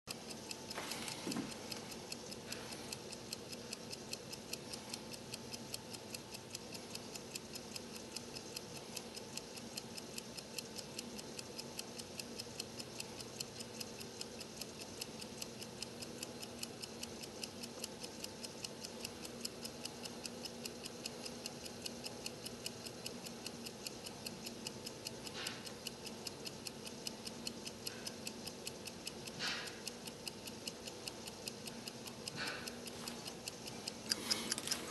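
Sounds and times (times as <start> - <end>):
stopwatch ticking rapidly: 0.0 - 34.9.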